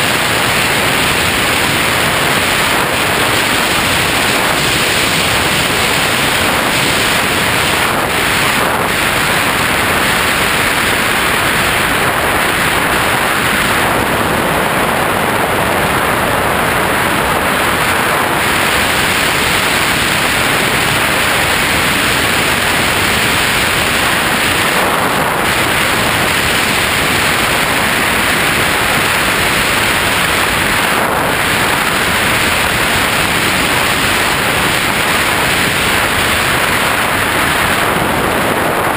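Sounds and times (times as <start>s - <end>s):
loud wind rushing over camera: 0.0s - 38.9s.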